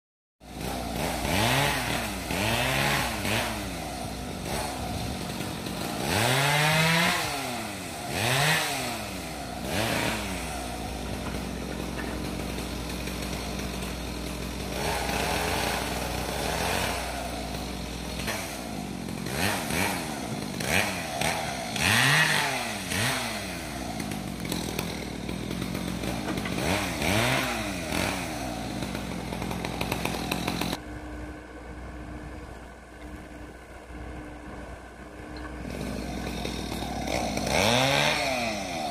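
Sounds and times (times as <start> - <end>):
diesel engine revving: 0.4 - 38.9.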